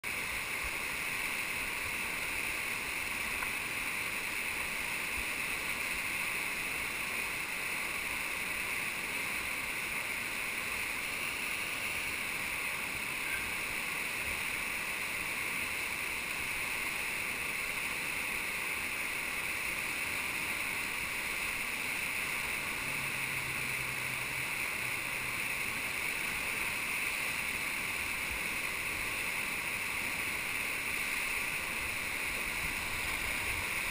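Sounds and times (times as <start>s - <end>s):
whitewater rushing: 0.1s - 33.9s.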